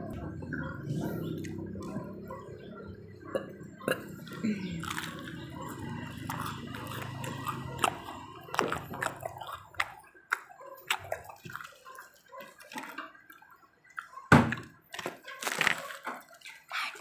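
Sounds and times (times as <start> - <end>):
wet chewing and mouth smacking: 3.3 - 17.0.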